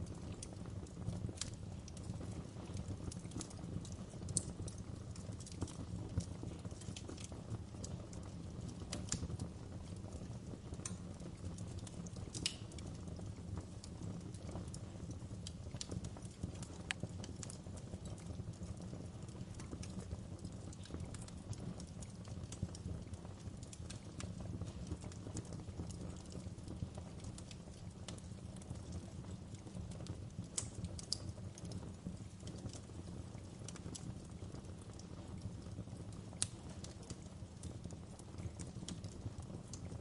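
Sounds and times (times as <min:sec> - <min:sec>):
fire flames rumbling: 0:00.0 - 0:40.0
logs crackling and popping: 0:00.0 - 0:40.0.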